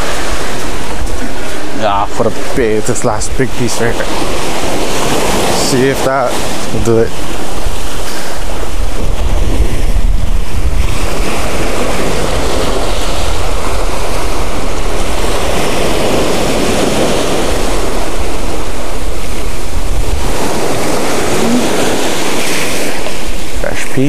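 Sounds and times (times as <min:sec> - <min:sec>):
ocean surf breaking on beach: 0:00.0 - 0:24.0
wind buffeting microphone: 0:00.0 - 0:24.0.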